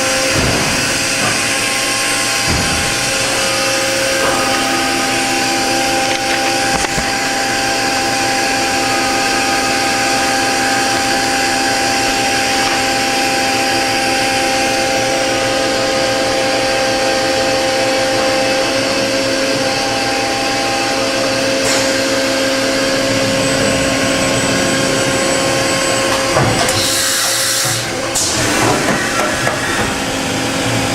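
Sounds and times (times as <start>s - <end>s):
machine drives whining: 0.0s - 30.9s
steady machine tones: 0.0s - 30.9s.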